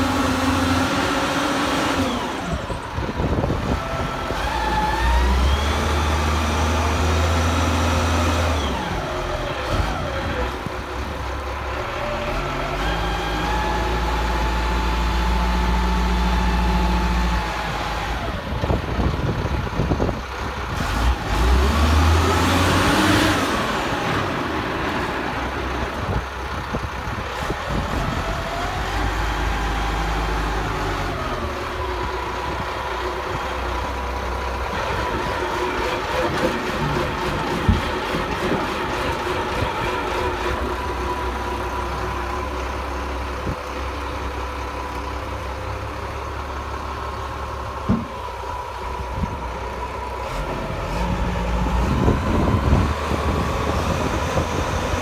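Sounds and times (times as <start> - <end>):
drill diesel engine under load: 0.0 - 55.0.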